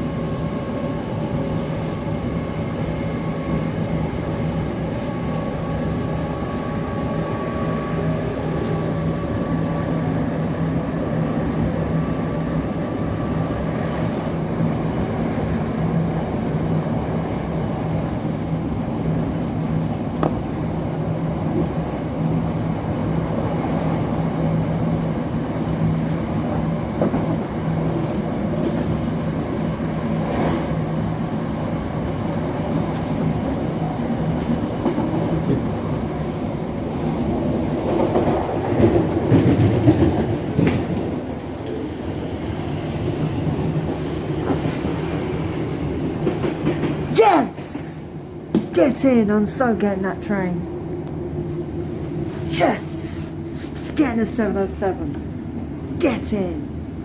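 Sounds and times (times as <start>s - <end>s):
electric train rumbling: 0.0s - 56.0s, 56.6s - 57.0s
high train whine: 0.0s - 57.0s.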